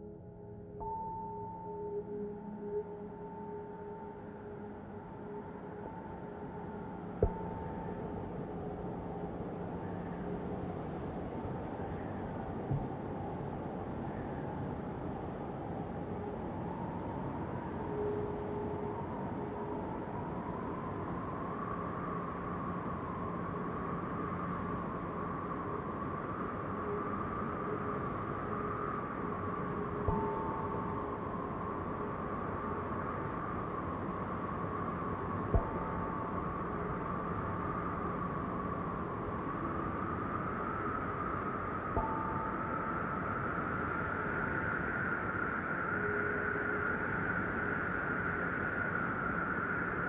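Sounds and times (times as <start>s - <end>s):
wind with faint whistling: 0.8s - 50.0s.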